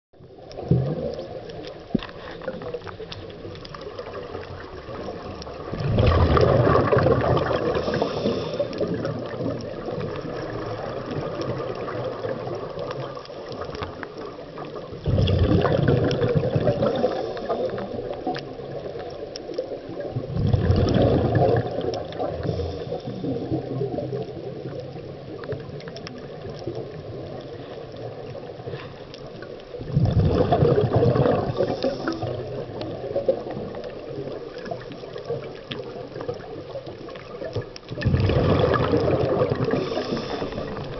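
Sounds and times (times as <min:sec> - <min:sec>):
exhaled air bubbling underwater: 0:00.2 - 0:40.9
steady watery hiss: 0:00.2 - 0:40.9.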